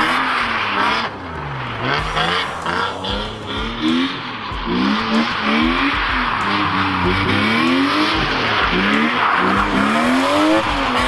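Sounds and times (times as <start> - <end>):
car engine revving: 0.0 - 11.0
tyres squealing on wet asphalt: 0.0 - 11.0.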